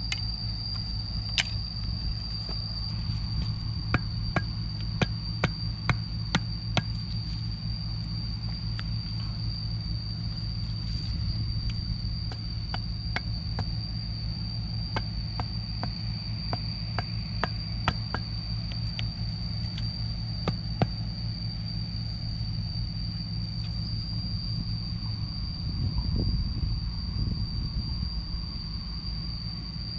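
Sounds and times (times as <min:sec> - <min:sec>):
steady high whine: 0:00.0 - 0:29.9
steady low hum: 0:00.0 - 0:29.9.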